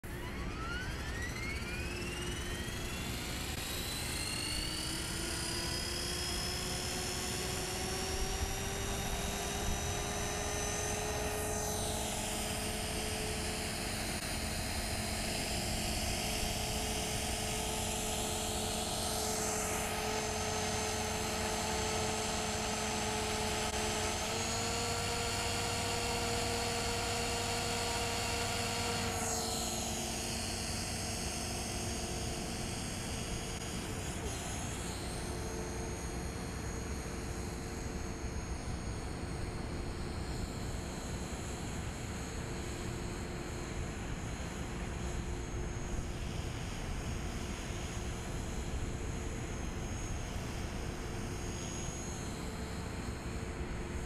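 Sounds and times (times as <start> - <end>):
model helicopter motor whine: 0.0 - 54.0
rotor buzz: 0.1 - 54.0.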